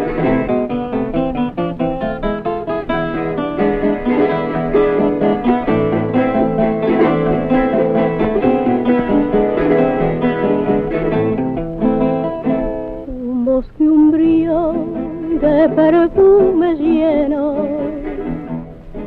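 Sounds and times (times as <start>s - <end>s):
plucked guitars playing: 0.0s - 19.0s.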